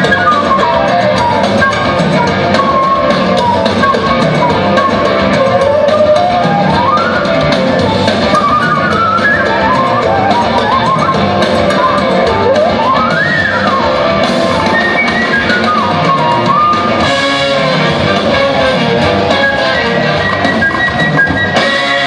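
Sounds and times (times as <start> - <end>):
drums: 0.0 - 22.0
electric slide guitar: 0.0 - 22.0.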